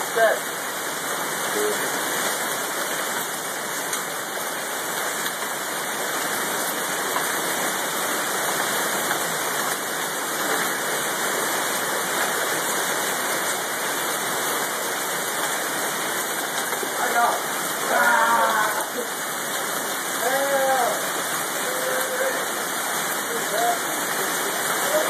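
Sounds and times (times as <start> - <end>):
heavy rain on wooden deck: 0.0 - 25.0
hailstones ticking: 3.0 - 25.0.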